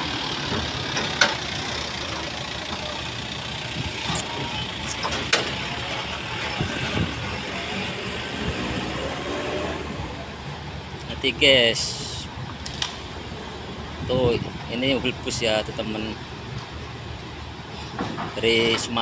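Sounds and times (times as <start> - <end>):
vehicle engine: 0.0 - 19.0.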